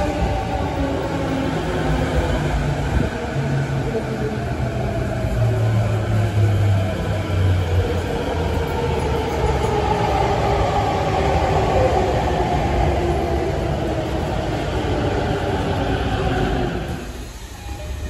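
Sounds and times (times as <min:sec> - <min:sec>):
rail rumble: 0:00.0 - 0:18.0.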